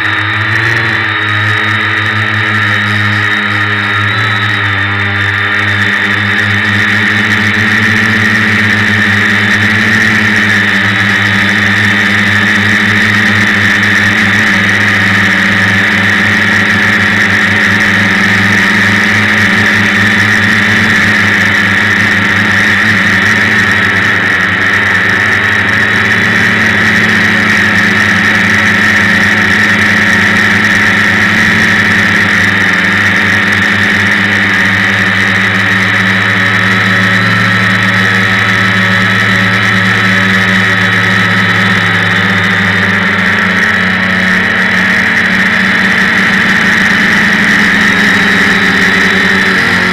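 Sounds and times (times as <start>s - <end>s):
drone motors buzzing whine: 0.0s - 49.9s.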